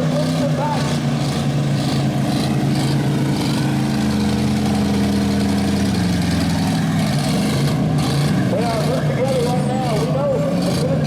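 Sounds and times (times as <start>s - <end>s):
car engine revving: 0.0s - 11.0s
car engines running loud: 0.0s - 11.0s.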